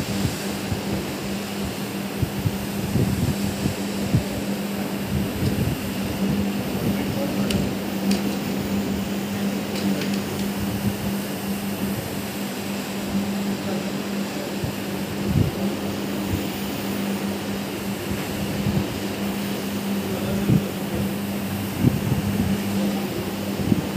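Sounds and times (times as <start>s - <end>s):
floor machine motor humming: 0.0s - 23.9s.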